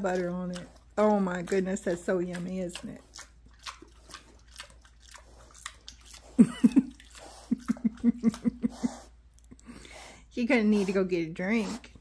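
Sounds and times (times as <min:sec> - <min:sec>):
pig chewing with wet smacks: 0:00.0 - 0:09.8.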